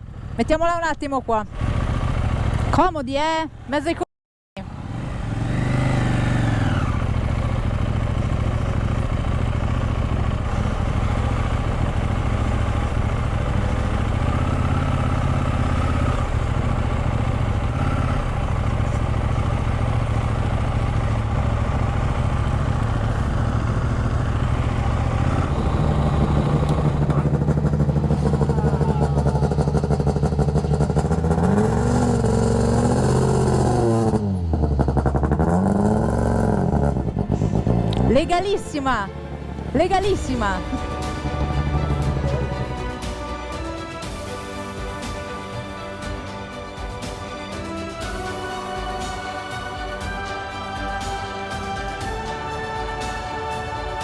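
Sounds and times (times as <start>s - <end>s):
motorcycle engine running: 0.0s - 3.8s, 4.6s - 54.0s.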